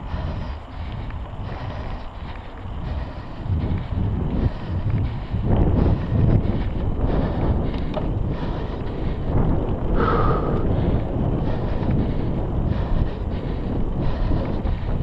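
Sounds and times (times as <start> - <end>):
tyres rumbling on dirt trail: 0.0 - 15.0
wind buffeting microphone: 0.0 - 15.0.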